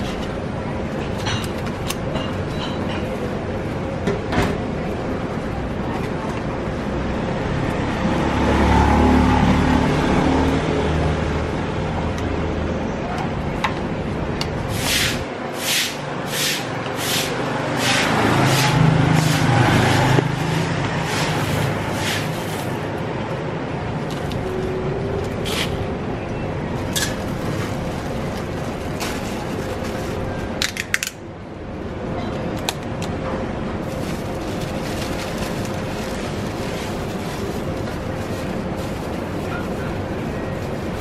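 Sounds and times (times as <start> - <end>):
market noise: 0.0 - 41.0
street traffic: 0.0 - 41.0.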